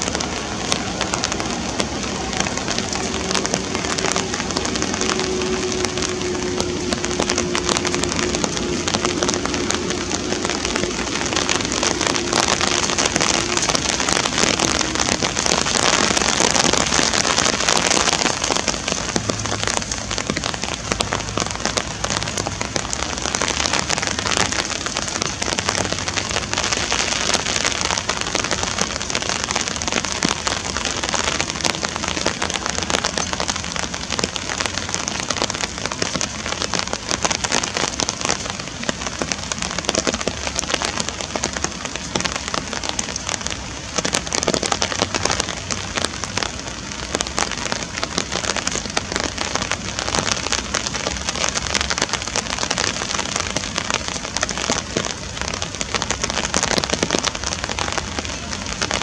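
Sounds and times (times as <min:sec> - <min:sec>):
rain falling on water: 0:00.0 - 0:59.0.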